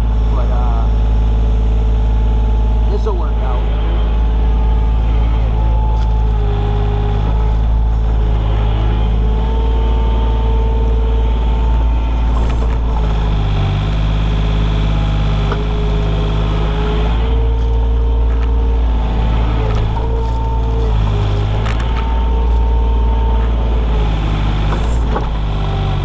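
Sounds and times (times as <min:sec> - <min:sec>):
excavator diesel engine whining: 0:00.0 - 0:26.0.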